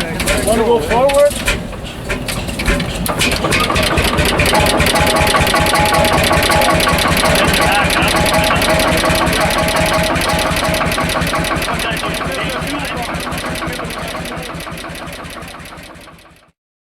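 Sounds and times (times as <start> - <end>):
tractor engine firing beats: 0.0 - 16.5.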